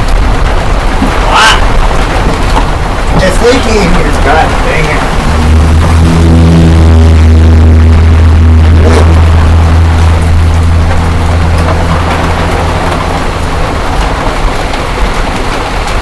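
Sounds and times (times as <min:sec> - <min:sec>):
heavy rain hissing: 0:00.0 - 0:16.0
loud low rumble: 0:00.0 - 0:16.0.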